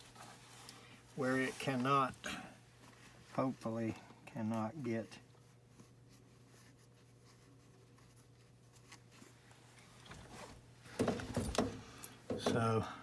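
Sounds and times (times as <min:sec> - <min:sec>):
faint rubbing and handling: 0:00.0 - 0:12.9.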